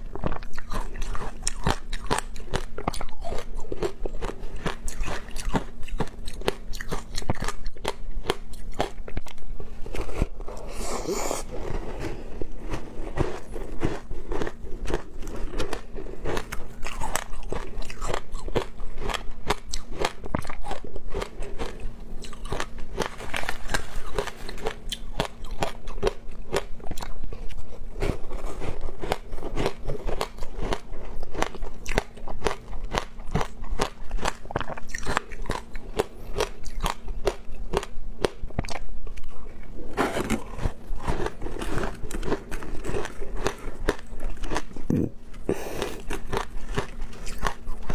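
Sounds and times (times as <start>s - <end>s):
ice being chewed: 0.0s - 47.9s.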